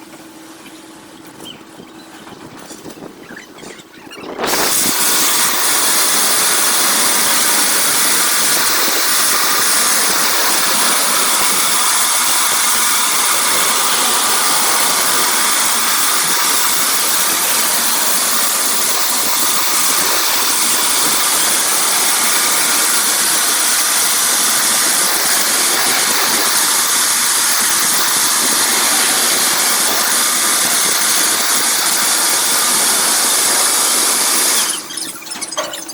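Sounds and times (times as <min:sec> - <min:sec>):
car wash machine hissing: 0:04.3 - 0:35.9.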